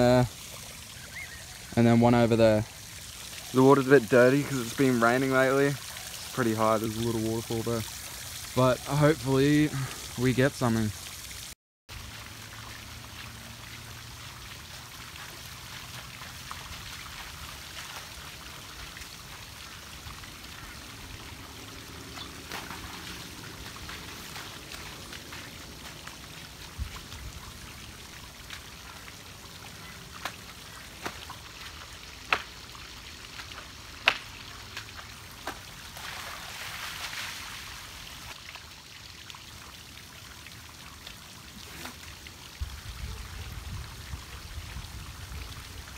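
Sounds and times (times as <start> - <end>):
small waterfall rushing: 0.0 - 45.9.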